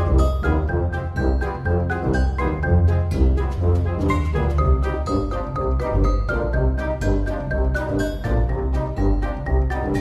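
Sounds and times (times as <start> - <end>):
instrumental music with bass line: 0.0 - 10.0.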